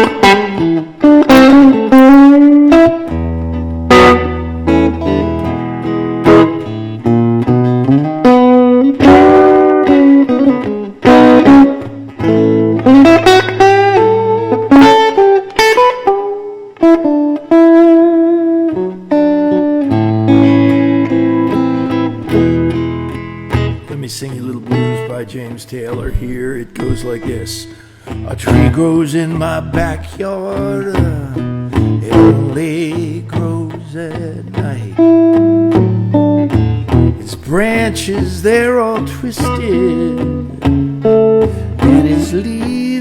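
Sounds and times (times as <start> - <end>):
solo blues guitar: 0.0 - 43.0.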